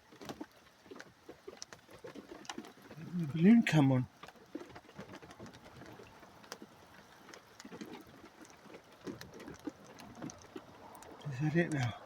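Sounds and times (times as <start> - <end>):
faint irregular clicks: 0.0 - 12.0.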